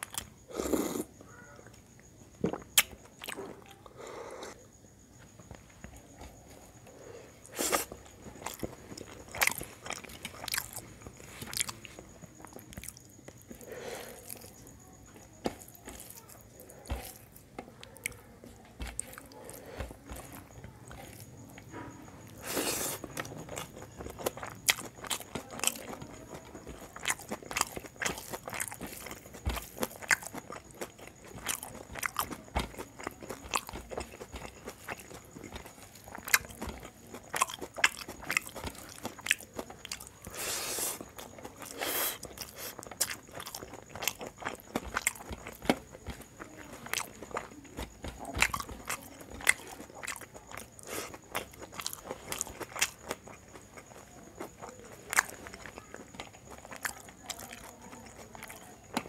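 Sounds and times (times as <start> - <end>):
close chewing with mouth clicks: 2.0 - 4.6, 5.5 - 59.0.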